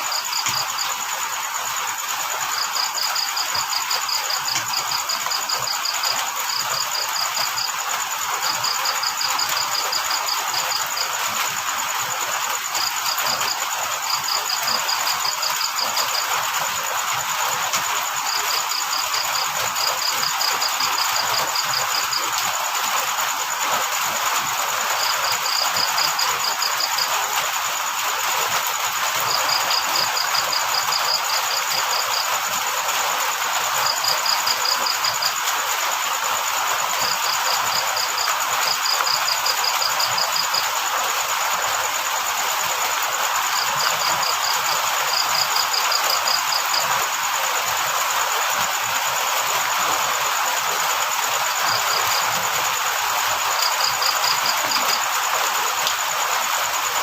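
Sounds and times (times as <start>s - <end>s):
cricket chirping: 0.0s - 57.0s
rain hiss: 0.0s - 57.0s.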